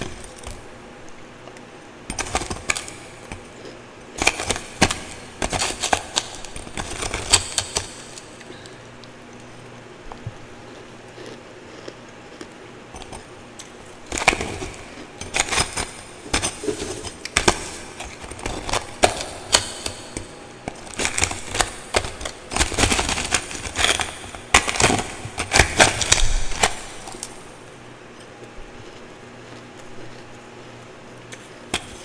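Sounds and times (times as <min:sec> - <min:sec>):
ice crunching while chewed: 0:01.4 - 0:27.4, 0:28.1 - 0:32.0.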